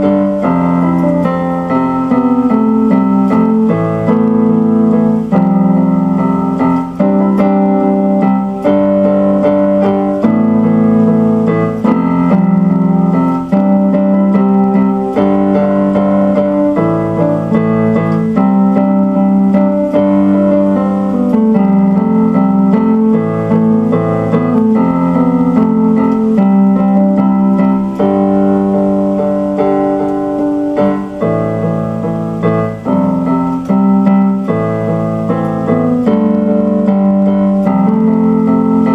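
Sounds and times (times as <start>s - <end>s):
electric piano chords: 0.0s - 38.9s.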